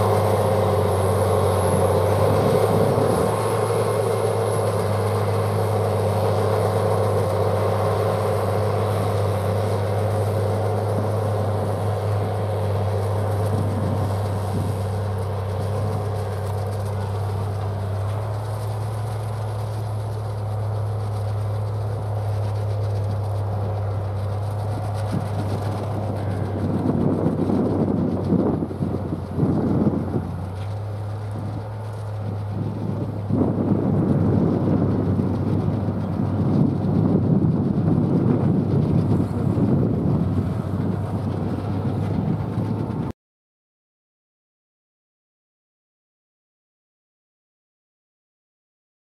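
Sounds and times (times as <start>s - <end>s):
tractor engine droning under load: 0.0s - 43.1s.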